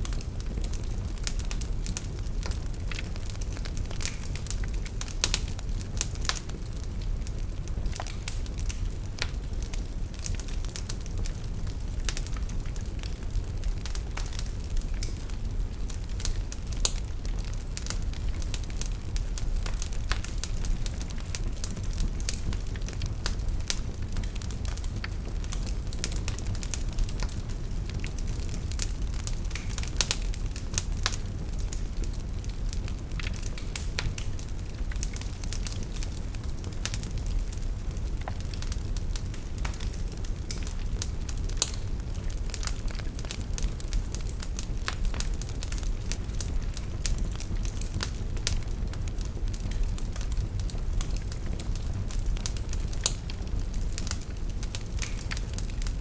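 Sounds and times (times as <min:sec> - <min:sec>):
burning logs crackling and popping: 0:00.0 - 0:56.0
fire low rumble: 0:00.0 - 0:56.0.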